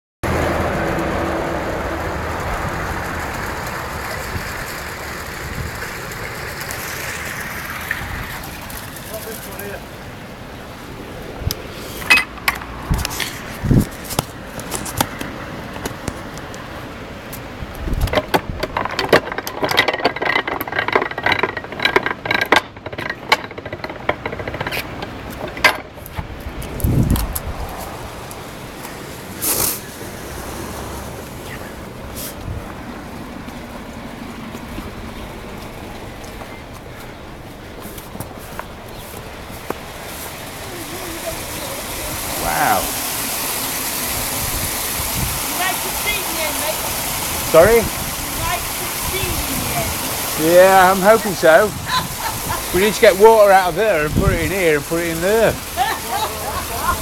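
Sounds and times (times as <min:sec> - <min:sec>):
water rushing and spilling: 0:00.2 - 0:57.0.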